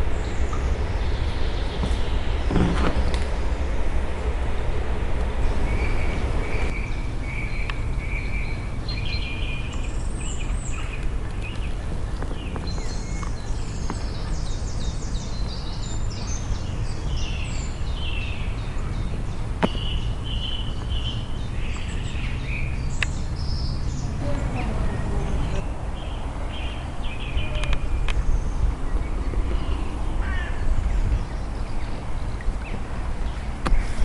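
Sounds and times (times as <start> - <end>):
songbirds chirping and singing: 0.0 - 34.0
steady low rumble: 0.0 - 34.0.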